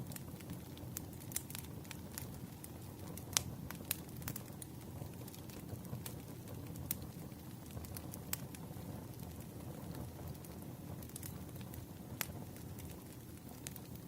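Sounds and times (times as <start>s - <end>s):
firewood burning with crackles: 0.0s - 14.0s.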